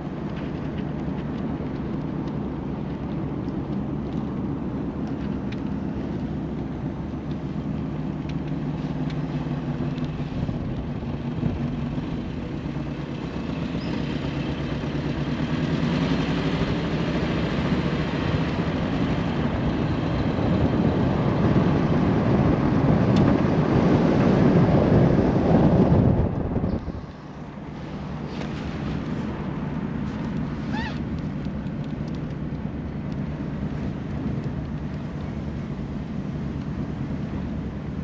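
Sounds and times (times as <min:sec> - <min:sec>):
car engine running: 0:00.0 - 0:38.0
road and wind noise: 0:00.0 - 0:38.0.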